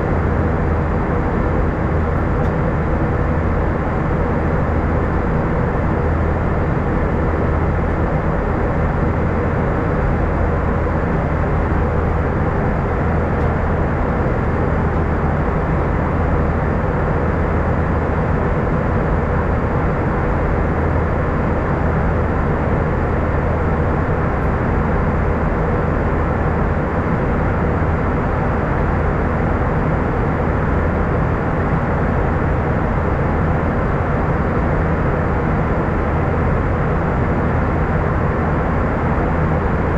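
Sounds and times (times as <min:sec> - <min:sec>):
airplane cabin engine rumble: 0:00.0 - 0:39.9
constant low hum: 0:00.0 - 0:39.9.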